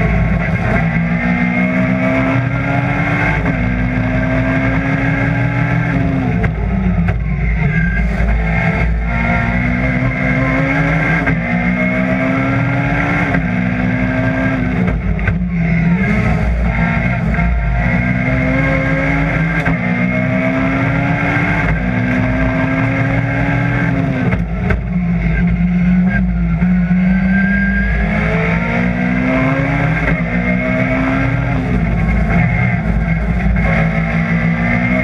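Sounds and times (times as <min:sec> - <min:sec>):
rally car engine at full throttle: 0:00.0 - 0:35.0.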